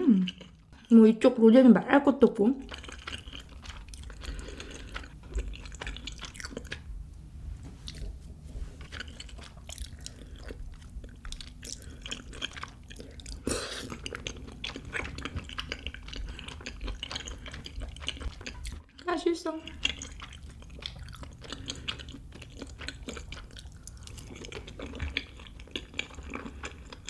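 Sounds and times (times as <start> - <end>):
close chewing: 2.6 - 6.9, 7.8 - 27.0.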